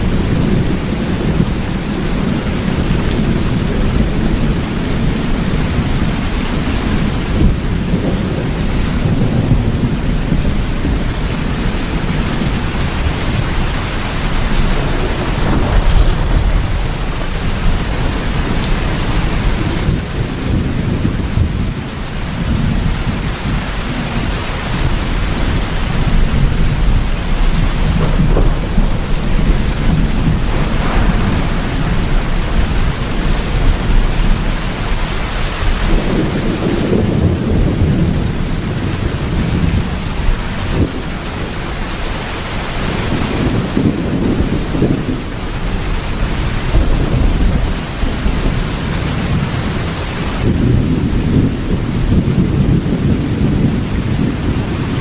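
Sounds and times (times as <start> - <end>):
heavy rain: 0.0 - 55.0
rolling thunder: 0.0 - 55.0.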